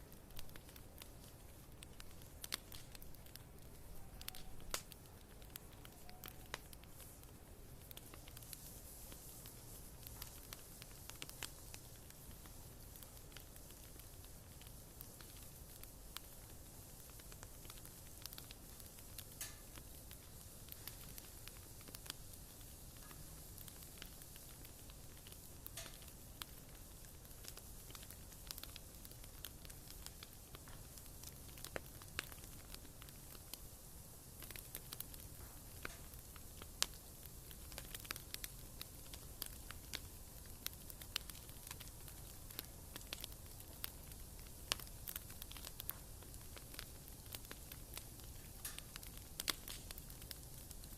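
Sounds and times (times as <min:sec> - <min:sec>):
faint steady hiss: 0:00.0 - 0:50.9
wood fire crackling and popping: 0:00.0 - 0:50.9.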